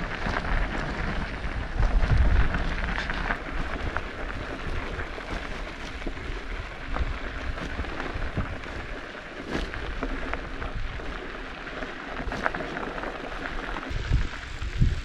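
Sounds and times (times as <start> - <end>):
bicycle tyres crunching on gravel: 0.0 - 15.0
wind rumbling on microphone: 0.0 - 15.0.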